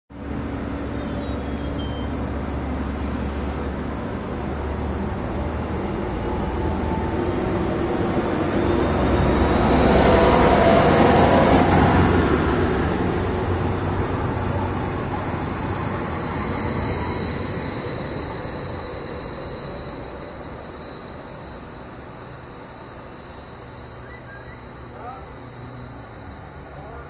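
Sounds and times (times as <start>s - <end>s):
train arriving engine and wheels: 0.1s - 27.0s.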